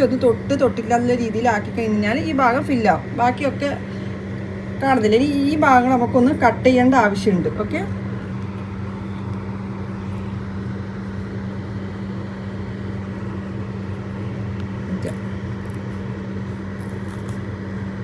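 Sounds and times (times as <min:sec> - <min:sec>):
appliance electrical hum: 0:00.0 - 0:18.0.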